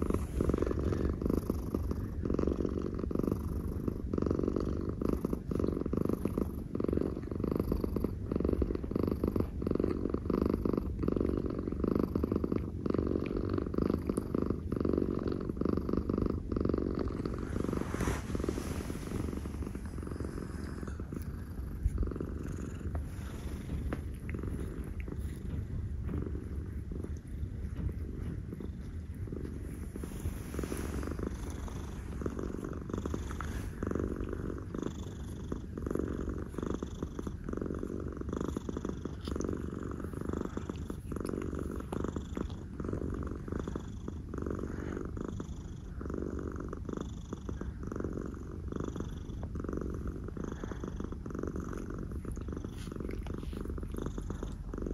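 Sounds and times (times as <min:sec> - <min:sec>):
cat purring: 0:00.0 - 0:54.9.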